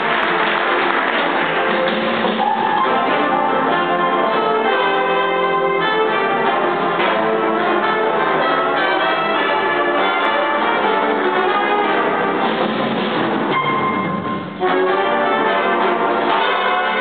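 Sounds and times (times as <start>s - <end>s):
jazz big band playing: 0.0s - 17.0s.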